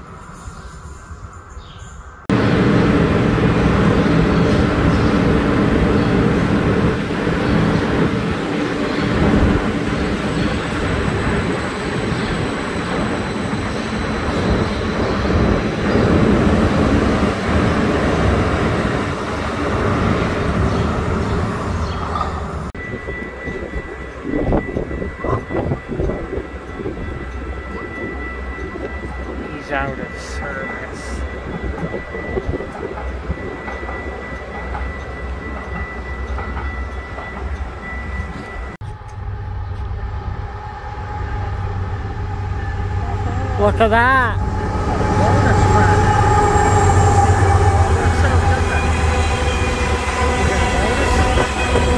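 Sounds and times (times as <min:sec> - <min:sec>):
train wheels and motors rumbling: 0:02.2 - 0:51.9.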